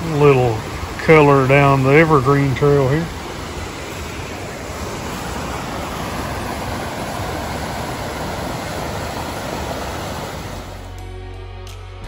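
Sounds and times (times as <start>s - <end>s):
fast-flowing creek rushing: 0.0s - 11.0s.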